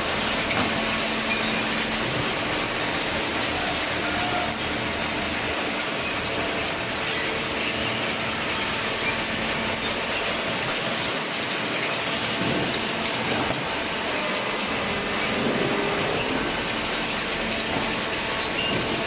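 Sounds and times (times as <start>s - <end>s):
baler machinery running: 0.0s - 19.0s.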